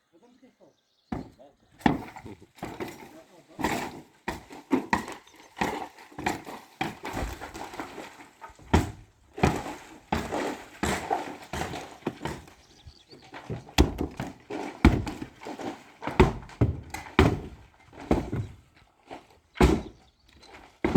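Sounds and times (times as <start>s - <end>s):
knocks and scrapes of masonry work: 1.1s - 20.9s.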